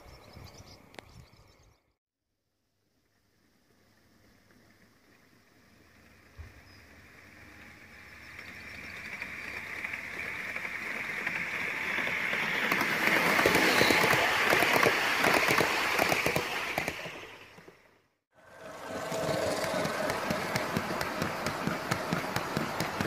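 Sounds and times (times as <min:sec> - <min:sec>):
model train running: 0:04.0 - 0:23.0
wheels clicking on rails: 0:04.5 - 0:23.0.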